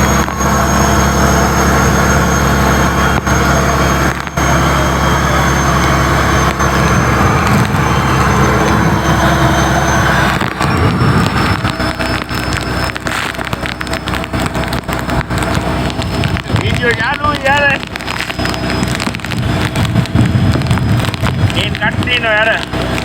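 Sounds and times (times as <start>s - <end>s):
boat engine humming: 0.0s - 23.0s
dense rushing noise: 0.0s - 23.0s.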